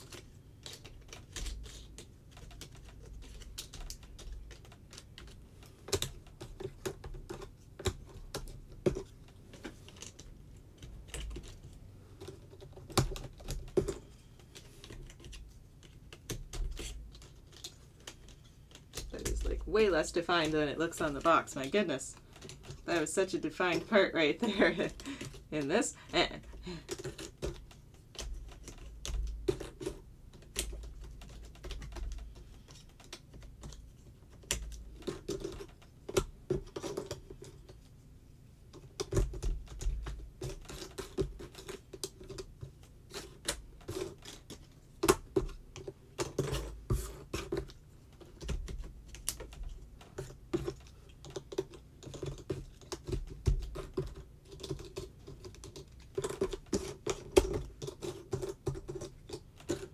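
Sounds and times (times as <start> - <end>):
jigsaw pieces clicking: 0.0 - 19.7, 20.4 - 23.9, 26.4 - 37.8, 38.7 - 59.9.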